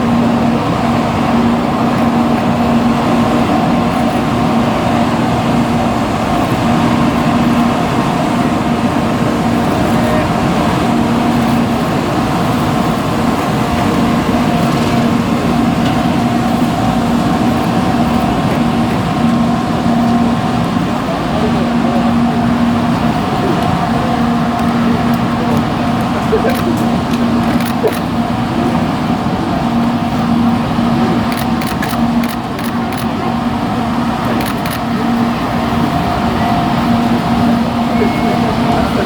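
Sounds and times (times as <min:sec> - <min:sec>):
vehicle running noise: 0:00.0 - 0:39.0.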